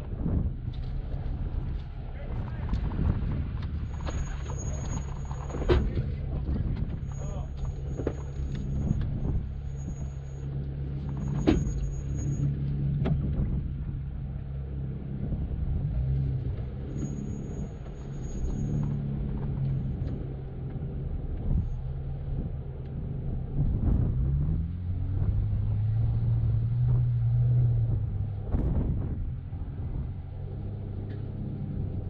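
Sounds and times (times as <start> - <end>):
knocks and clunks over rough ground: 0.0 - 32.0
vehicle engine running slowly: 0.0 - 32.0.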